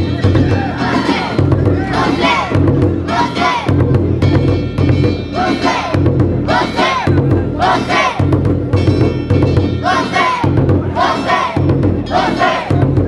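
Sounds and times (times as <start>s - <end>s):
deep festival drumbeat: 0.0s - 13.0s.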